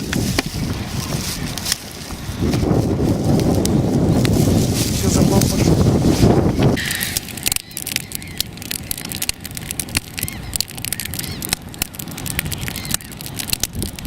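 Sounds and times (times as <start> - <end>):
campfire crackling and snapping: 0.0 - 14.0.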